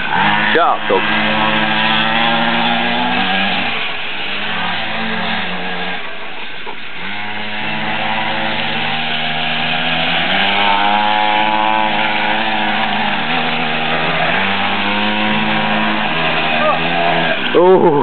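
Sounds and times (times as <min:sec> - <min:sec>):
mini dirt bike engine revving: 0:00.0 - 0:18.0.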